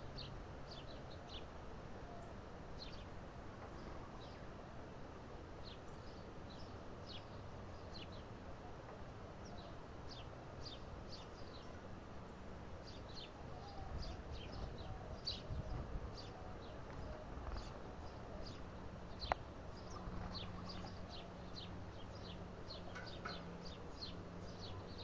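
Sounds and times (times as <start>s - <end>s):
small birds chirping: 0.0s - 4.7s, 5.6s - 25.0s.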